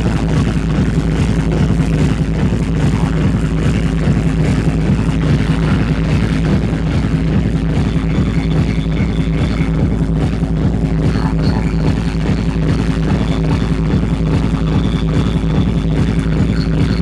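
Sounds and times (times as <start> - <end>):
loud techno music: 0.0 - 17.0.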